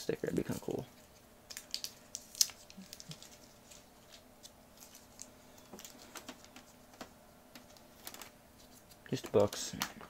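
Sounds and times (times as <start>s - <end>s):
paper rustling: 0.4s - 9.7s.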